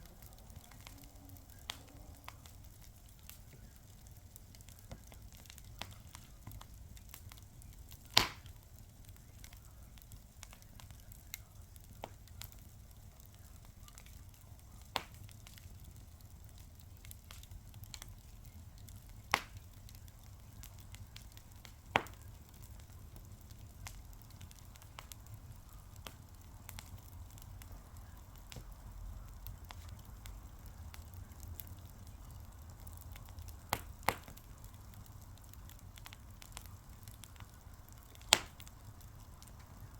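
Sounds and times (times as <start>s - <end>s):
sharp fire pops: 0.0s - 39.9s
wood fire crackling: 0.0s - 39.9s.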